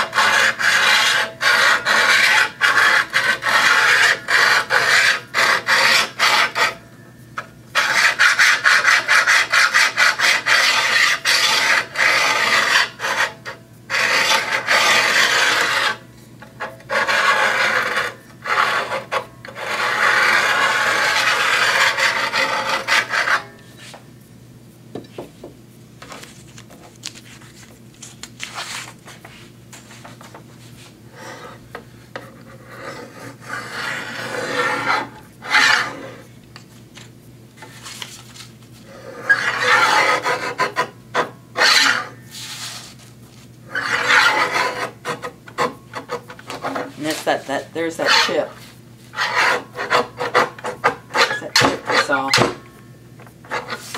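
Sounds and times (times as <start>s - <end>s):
hone filing metal blade: 0.0s - 6.8s, 7.7s - 24.0s, 31.1s - 36.4s, 37.6s - 52.8s, 53.4s - 53.9s.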